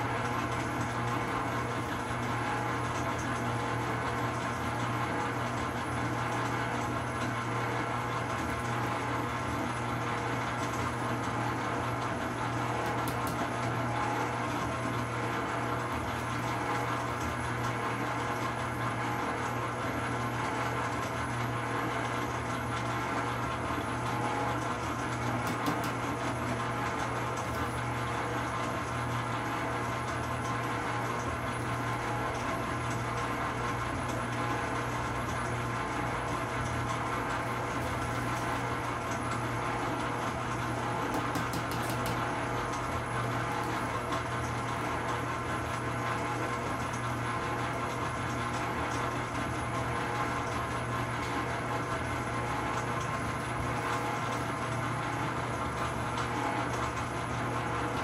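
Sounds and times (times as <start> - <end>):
stand mixer motor humming: 0.0 - 58.0.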